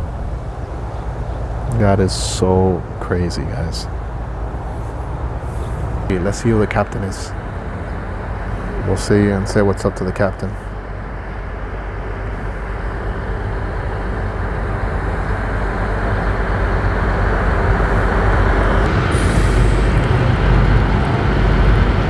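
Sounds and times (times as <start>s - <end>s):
diesel engines droning: 0.0s - 22.0s.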